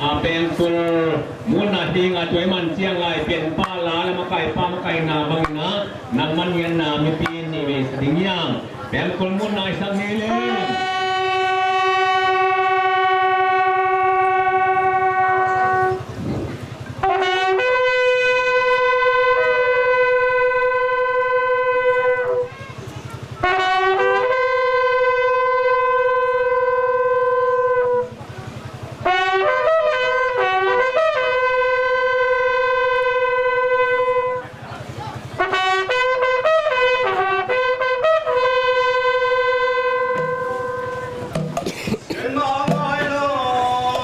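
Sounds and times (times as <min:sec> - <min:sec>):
horn trumpets blowing long blasts: 0:00.0 - 0:41.7.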